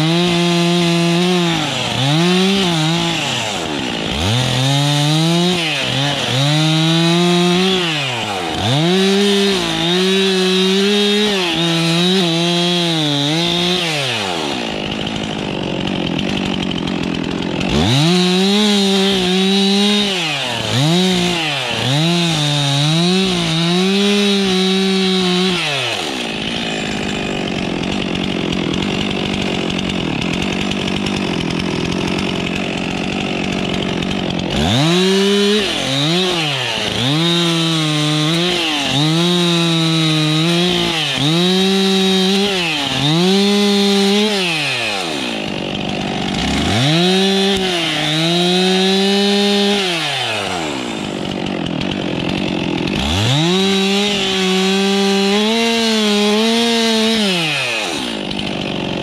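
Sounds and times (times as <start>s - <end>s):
chain cutting through wood: 0.0s - 59.0s
chainsaw revving: 0.0s - 59.0s.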